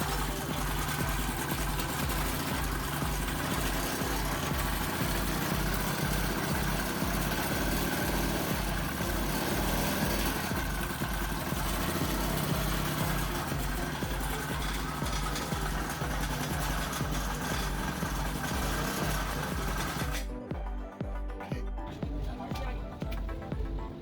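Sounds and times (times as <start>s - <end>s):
small engine fast idle: 0.0s - 20.4s.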